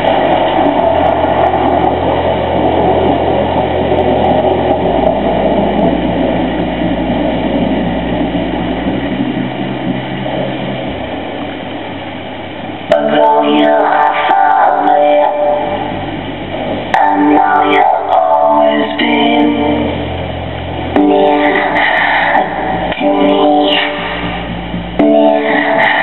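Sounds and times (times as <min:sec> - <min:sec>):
engine-like rushing noise: 0:00.0 - 0:26.0
low bass drone: 0:00.0 - 0:26.0.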